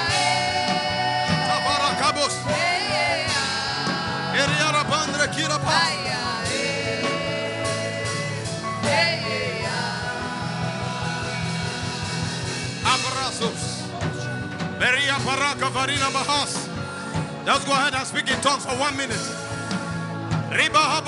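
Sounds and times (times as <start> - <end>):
keyboard chords: 0.0 - 21.0.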